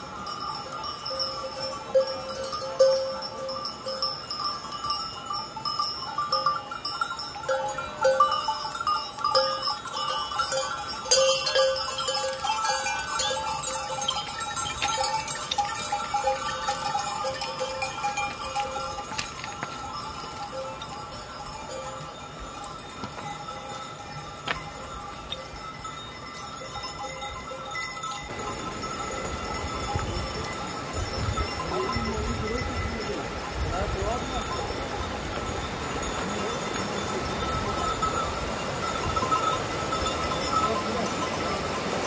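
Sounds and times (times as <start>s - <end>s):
goat bells clanking: 0.0s - 42.0s.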